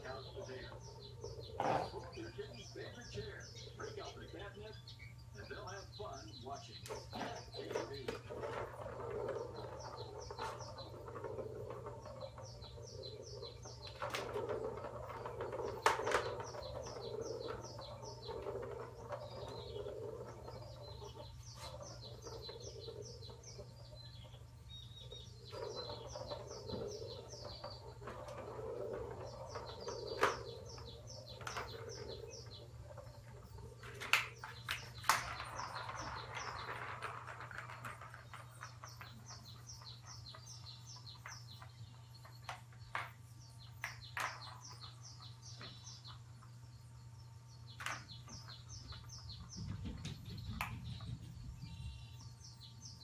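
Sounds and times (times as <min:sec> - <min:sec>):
birds chirping in trills: 0:00.0 - 0:53.0.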